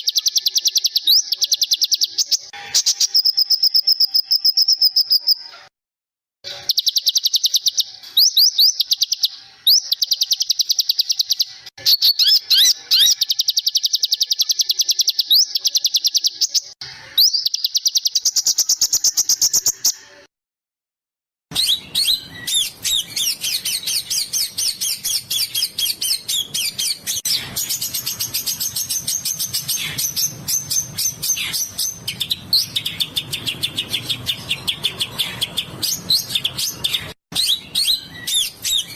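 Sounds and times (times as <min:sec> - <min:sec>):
songbird chirping: 0:00.0 - 0:05.7, 0:06.5 - 0:20.2, 0:21.5 - 0:38.9.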